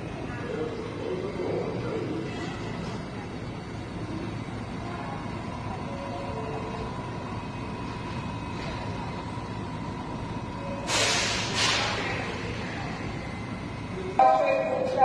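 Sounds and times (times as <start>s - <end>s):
steady high whine: 0.0s - 15.0s
subway train rumble: 0.0s - 15.0s.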